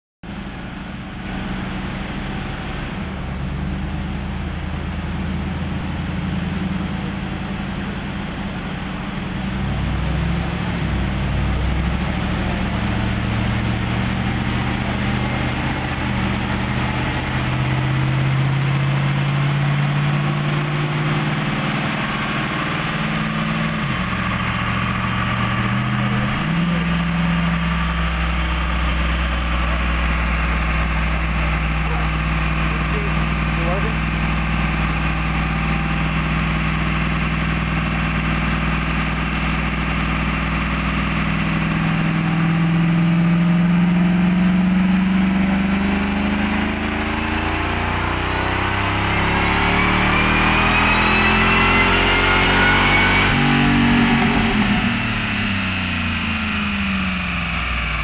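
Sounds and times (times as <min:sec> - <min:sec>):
supercharged engine running: 0:00.3 - 0:58.0.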